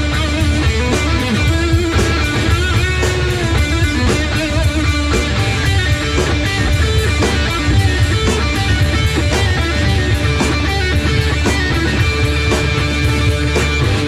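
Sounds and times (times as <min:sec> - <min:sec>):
bass guitar: 0:00.0 - 0:14.0
drums beating: 0:00.0 - 0:14.0
electric guitar: 0:00.0 - 0:14.0.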